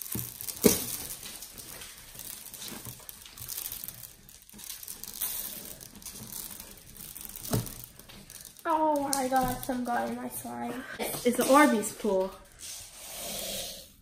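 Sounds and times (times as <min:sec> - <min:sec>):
hands squishing slime: 0:00.0 - 0:11.9.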